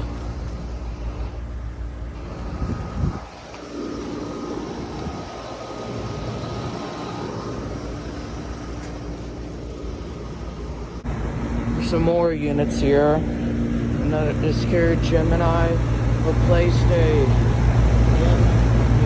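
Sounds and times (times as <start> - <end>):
compressor hum: 0.0 - 19.0
condenser fan whoosh: 0.0 - 19.0
deep rumble: 0.0 - 19.0
faint steady tone: 0.0 - 19.0.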